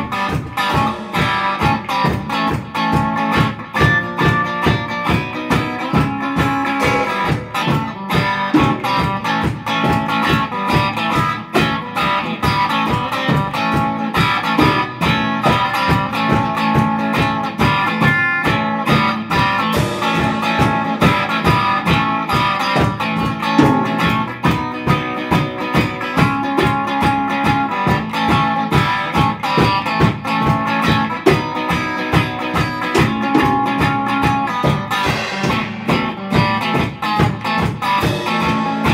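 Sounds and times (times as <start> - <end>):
drum kit beat: 0.0 - 38.9
electric guitars: 0.0 - 38.9.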